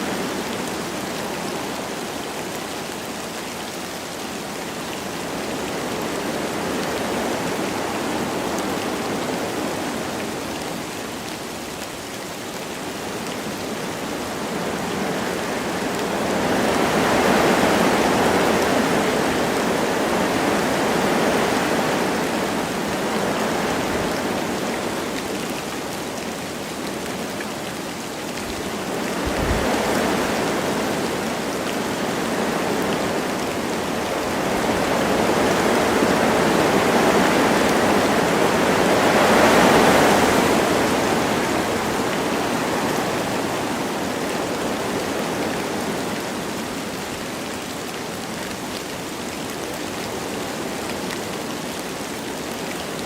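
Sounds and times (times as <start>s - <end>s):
light rain: 0.0s - 53.0s
wind blowing through trees: 0.0s - 53.0s.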